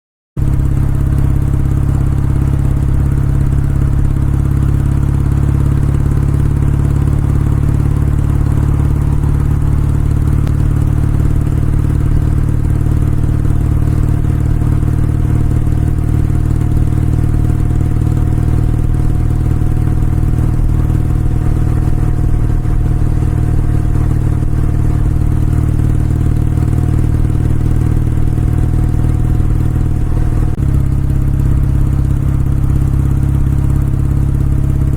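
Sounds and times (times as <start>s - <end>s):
motorcycle engine running steadily: 0.4s - 34.9s.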